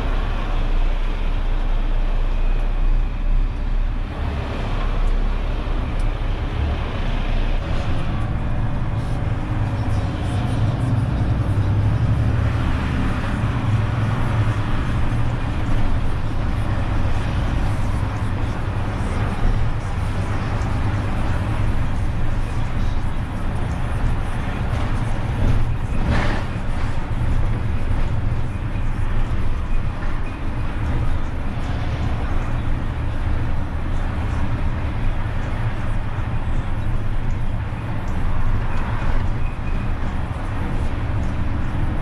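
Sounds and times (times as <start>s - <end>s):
road noise: 0.0s - 42.0s
truck diesel engine running: 0.0s - 42.0s.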